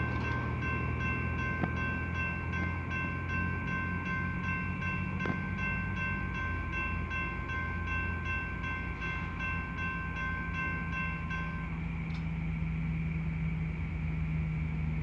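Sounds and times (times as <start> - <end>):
crossing bell ringing rapidly: 0.0 - 12.0.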